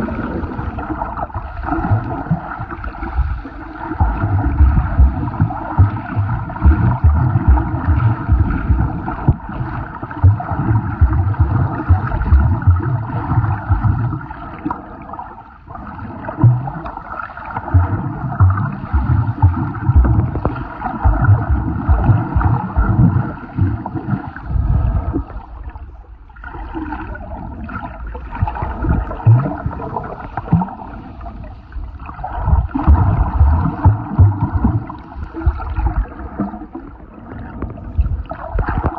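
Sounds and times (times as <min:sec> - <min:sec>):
low thumps of water surges: 0:00.0 - 0:38.9
muffled water sloshing underwater: 0:00.0 - 0:38.9.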